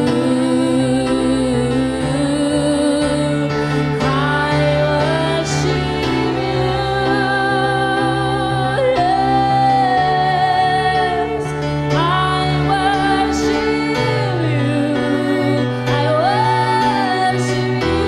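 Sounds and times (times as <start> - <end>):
slow worship music: 0.0 - 18.0.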